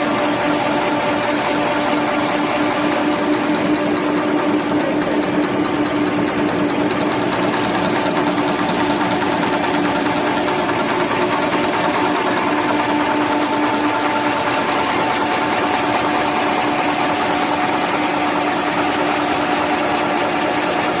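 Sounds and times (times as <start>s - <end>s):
fast mechanical rattle: 0.0s - 21.0s
machine hum: 0.0s - 21.0s.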